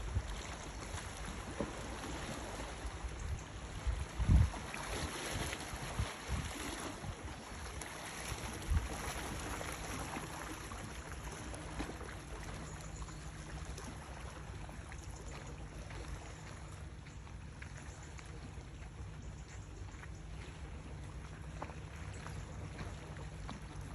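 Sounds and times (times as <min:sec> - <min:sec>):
low motor hum: 0:00.0 - 0:23.9.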